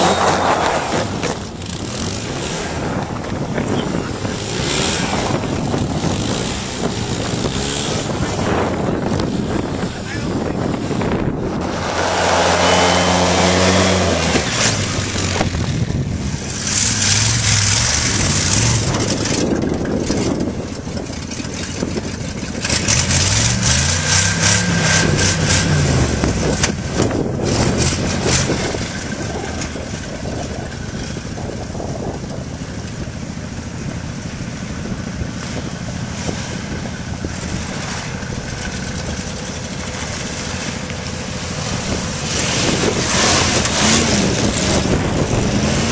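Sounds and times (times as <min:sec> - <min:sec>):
vehicle engine revving: 0:00.0 - 0:45.9
wind buffeting microphone: 0:00.0 - 0:45.9.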